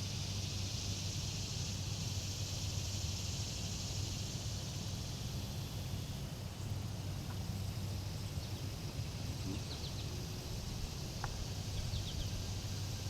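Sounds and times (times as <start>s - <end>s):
constant low hum: 0.0s - 13.0s
high-pitched hiss: 0.0s - 13.0s.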